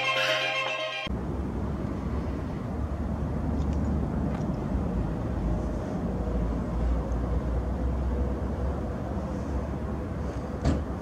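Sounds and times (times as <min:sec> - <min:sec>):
distant city traffic: 0:00.0 - 0:11.0.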